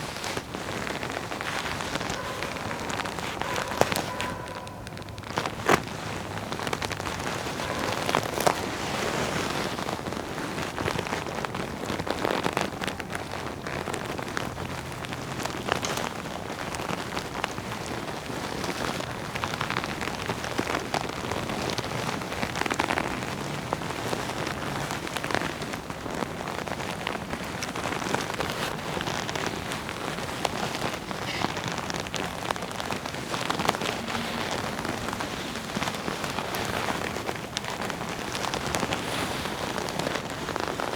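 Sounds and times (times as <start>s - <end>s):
leather crackling and creaking: 0.0s - 40.9s.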